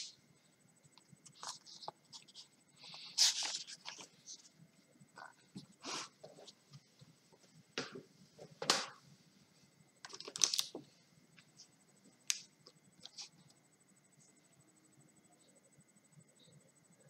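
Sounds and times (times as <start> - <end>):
faint high-pitched whine: 0.0 - 17.0.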